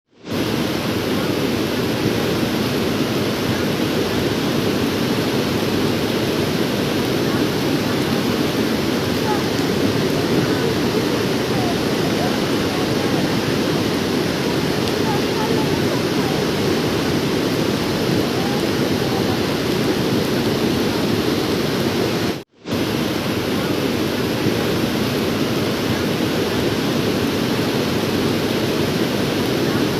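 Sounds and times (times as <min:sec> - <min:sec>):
floodwater rushing: 0:00.2 - 0:29.9.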